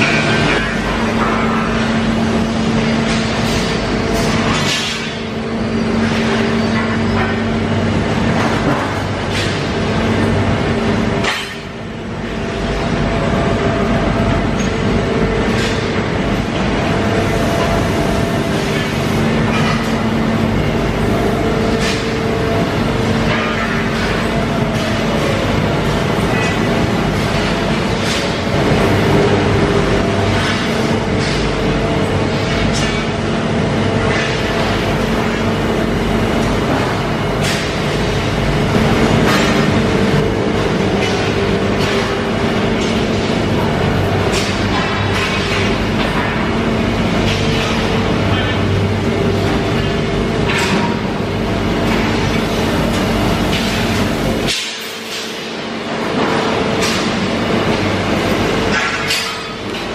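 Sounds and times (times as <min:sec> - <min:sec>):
industrial machinery rumble: 0:00.0 - 0:59.9.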